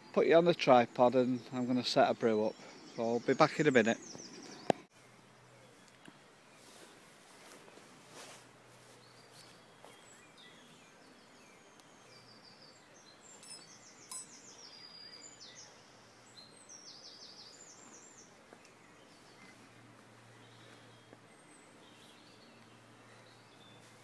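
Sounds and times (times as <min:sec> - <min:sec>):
faint birdsong: 0:00.0 - 0:24.0.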